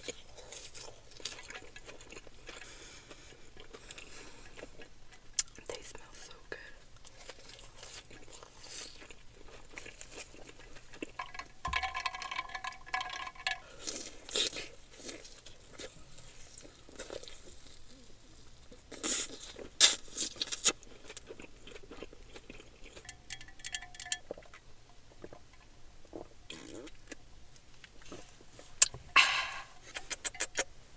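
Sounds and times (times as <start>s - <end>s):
person chewing crunchy food: 0.0s - 5.8s, 7.0s - 30.7s.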